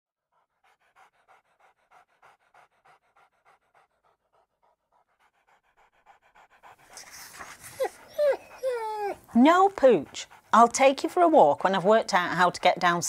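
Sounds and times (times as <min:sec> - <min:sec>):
dog panting: 0:00.2 - 0:13.0.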